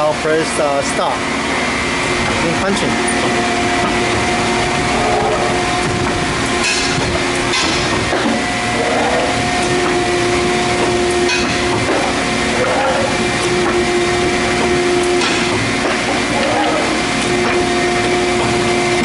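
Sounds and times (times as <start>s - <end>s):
two-tone machine hum: 0.0s - 19.0s.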